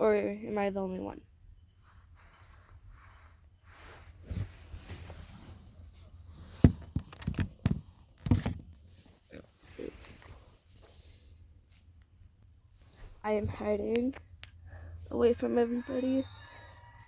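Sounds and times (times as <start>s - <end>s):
rustling: 1.6s - 17.0s.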